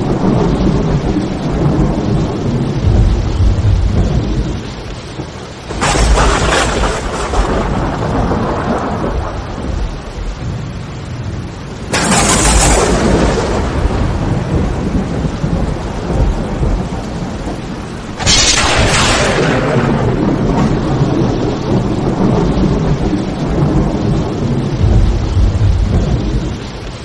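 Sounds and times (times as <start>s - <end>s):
steady rain: 0.0s - 27.0s
thunder crack and rumble: 0.0s - 27.0s.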